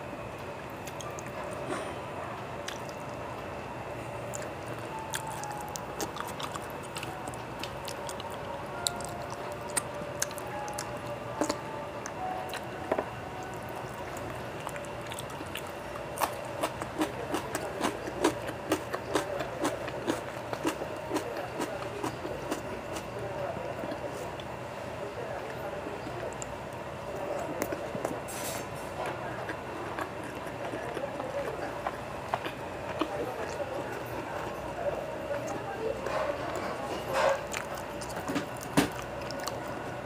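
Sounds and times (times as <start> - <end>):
low background hum: 0.0 - 40.0
man chewing with mouth smacks: 0.7 - 2.0, 2.6 - 3.2, 4.2 - 12.7, 13.4 - 23.2, 26.0 - 40.0.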